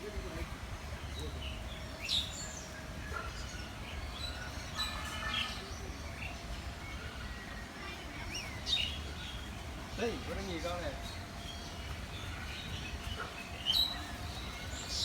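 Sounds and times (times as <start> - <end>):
birds chirping and calling: 1.0 - 15.0.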